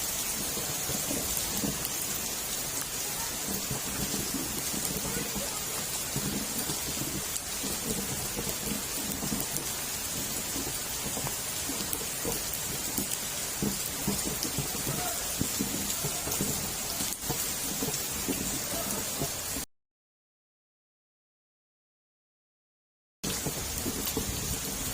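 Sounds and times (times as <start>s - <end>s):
heavy rain falling: 0.0s - 19.7s, 23.2s - 24.9s.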